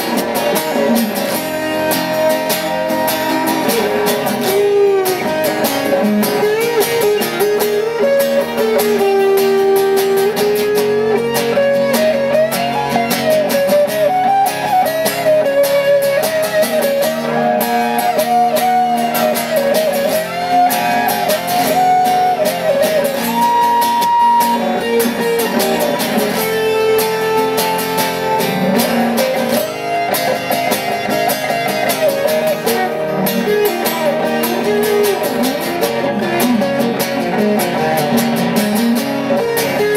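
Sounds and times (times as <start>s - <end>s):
lead acoustic guitar melody: 0.0s - 39.9s
strummed guitar chords: 0.0s - 39.9s.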